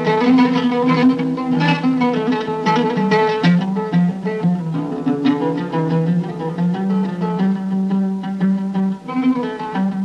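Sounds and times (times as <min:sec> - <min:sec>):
oud plucking melody: 0:00.0 - 0:10.0.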